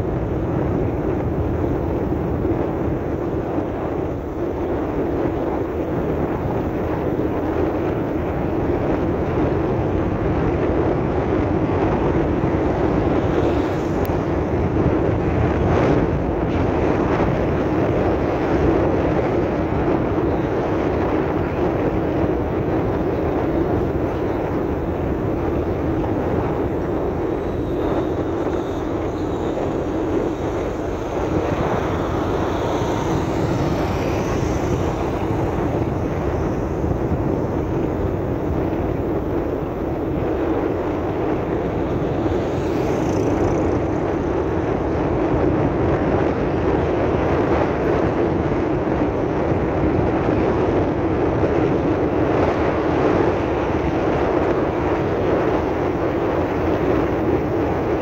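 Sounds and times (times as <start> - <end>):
vehicle driving on gravel road: 0.0 - 58.0.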